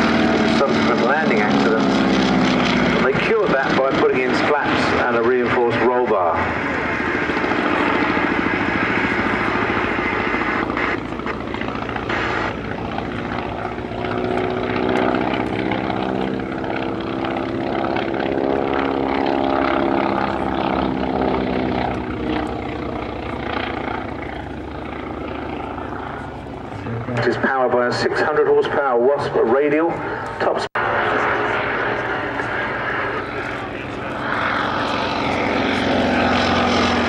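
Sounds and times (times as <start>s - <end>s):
aircraft radial engine running: 0.0s - 37.0s.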